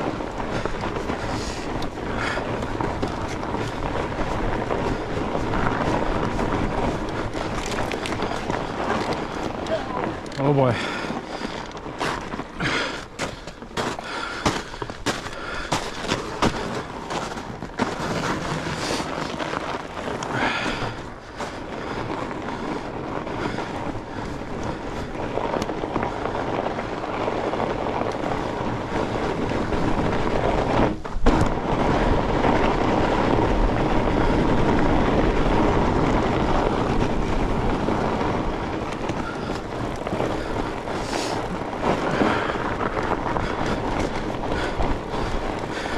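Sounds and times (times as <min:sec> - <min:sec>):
bike rattling over bumps: 0:00.0 - 0:45.9
tyre and wind rush: 0:00.0 - 0:45.9.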